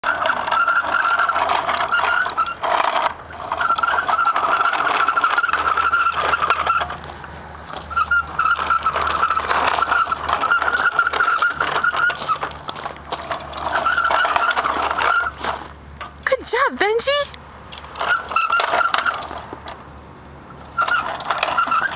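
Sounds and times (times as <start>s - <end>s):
toy truck wheels rolling on concrete: 0.0s - 21.9s.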